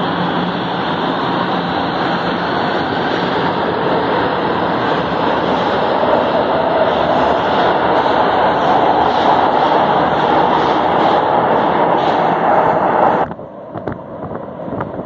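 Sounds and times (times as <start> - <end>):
subway train wheels rushing: 0.0 - 15.0.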